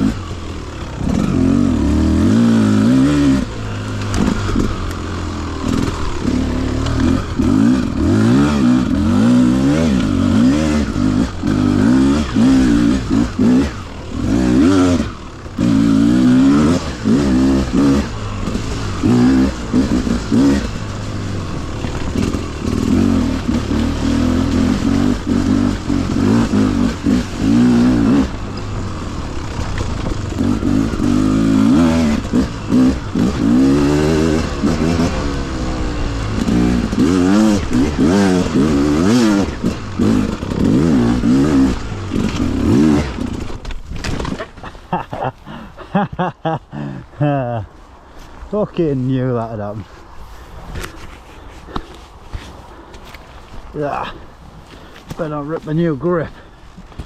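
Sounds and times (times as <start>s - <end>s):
two-stroke engine revving: 0.0s - 47.5s, 53.7s - 56.5s.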